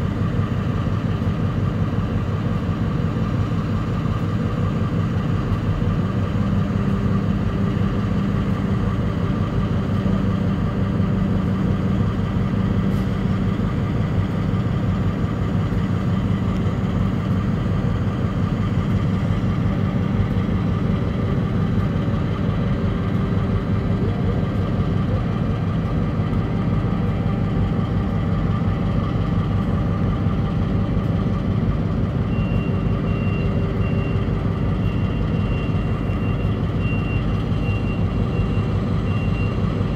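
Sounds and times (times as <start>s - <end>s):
locomotive engine idling: 0.0s - 39.9s.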